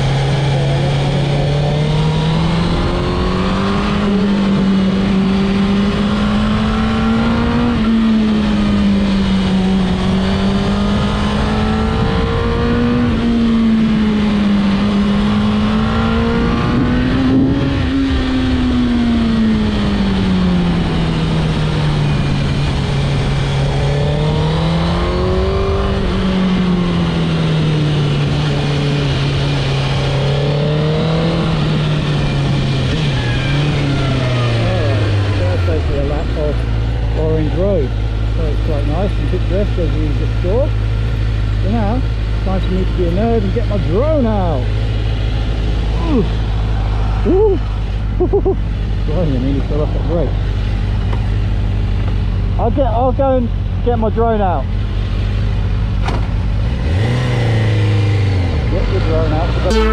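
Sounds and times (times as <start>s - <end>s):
wind and road noise: 0.0s - 59.8s.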